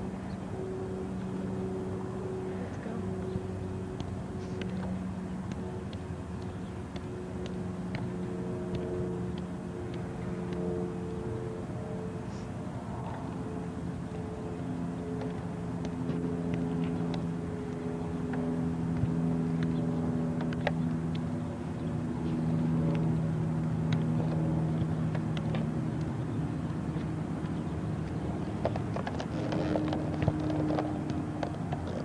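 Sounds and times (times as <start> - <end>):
engine-like hum: 0.0 - 32.0.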